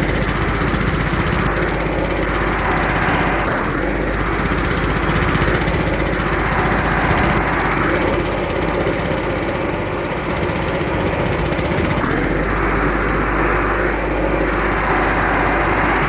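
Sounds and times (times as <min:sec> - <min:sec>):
machinery rapid mechanical rattle: 0:00.0 - 0:16.0.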